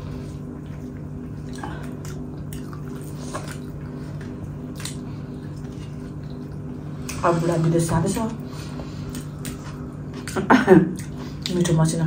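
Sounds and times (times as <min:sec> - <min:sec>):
wet chewing and mouth sounds: 0:00.0 - 0:11.8
steady low hum: 0:00.0 - 0:12.0.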